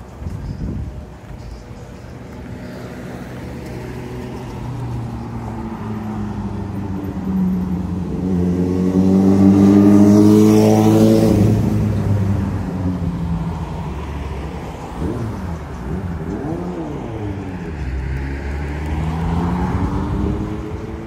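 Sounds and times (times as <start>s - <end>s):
vehicle engine accelerating: 2.5s - 21.0s.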